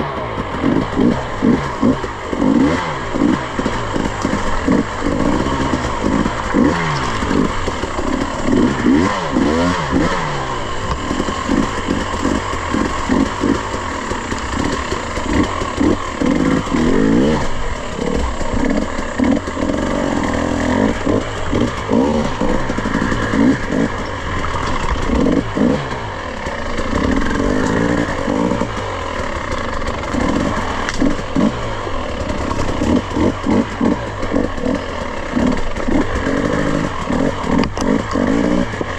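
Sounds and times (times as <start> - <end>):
dirt bike engine revving: 0.0 - 38.9
bike clattering over rough ground: 0.2 - 38.9.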